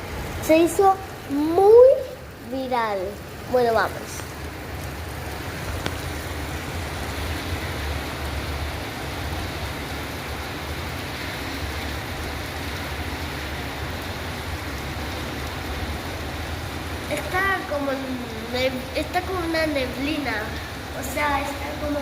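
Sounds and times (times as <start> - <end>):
very heavy rain pouring: 0.0 - 22.0.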